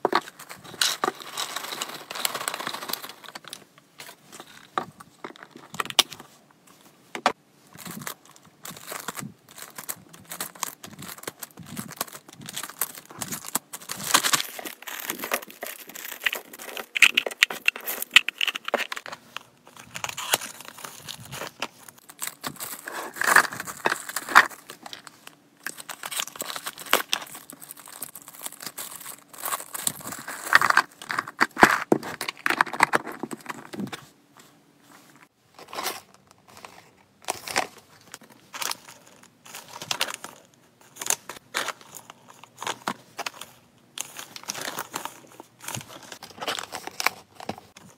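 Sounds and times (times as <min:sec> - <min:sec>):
plastic packets crinkling: 0:00.0 - 0:06.1, 0:07.8 - 0:34.0, 0:35.6 - 0:47.9.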